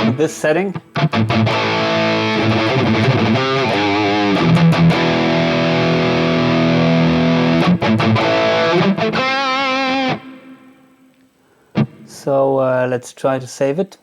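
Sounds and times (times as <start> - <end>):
distorted electric guitar: 0.0 - 12.2.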